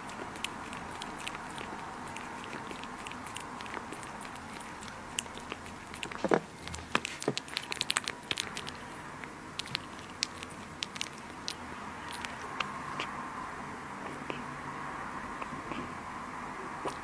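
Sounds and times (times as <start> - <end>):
kitten lapping food: 0.0 - 13.4, 14.0 - 14.5, 15.3 - 16.0, 16.6 - 17.0.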